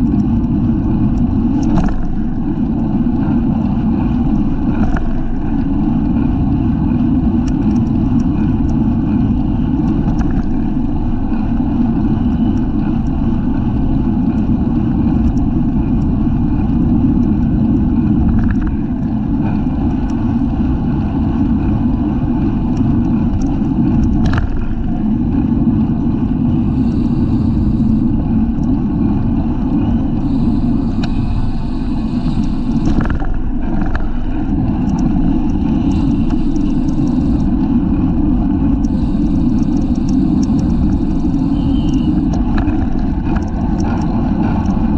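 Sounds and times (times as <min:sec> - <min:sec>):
bicycle road noise: 0:00.0 - 0:44.9
wind rushing on microphone: 0:00.0 - 0:44.9.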